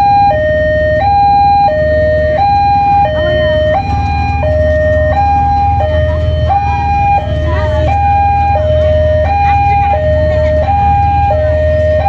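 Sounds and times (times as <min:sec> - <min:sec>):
level-crossing two-tone alarm: 0:00.0 - 0:12.0.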